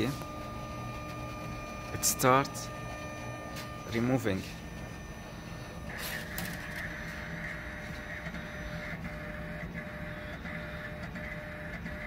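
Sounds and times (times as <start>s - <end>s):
extruder motor running: 0.0s - 12.0s.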